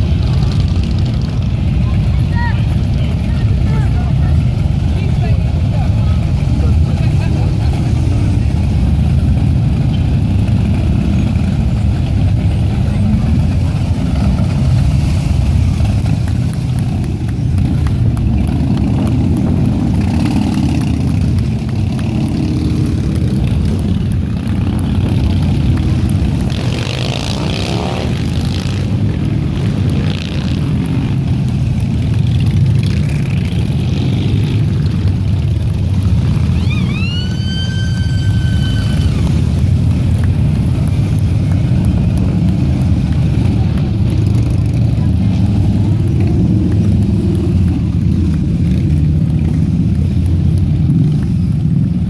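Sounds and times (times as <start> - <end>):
motorcycle engine revving: 0.0 - 52.0
motorcycles riding past: 0.0 - 52.0.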